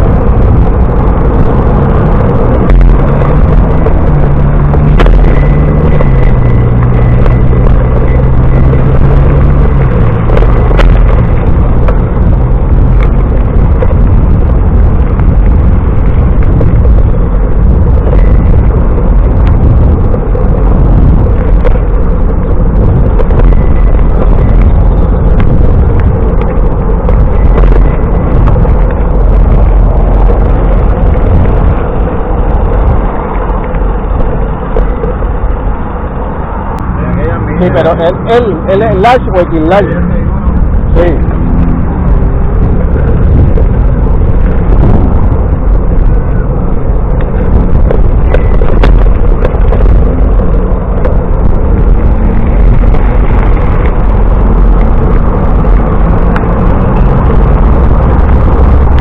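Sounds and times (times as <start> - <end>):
engine hum: 0.0 - 59.0
wind buffeting microphone: 0.0 - 59.0.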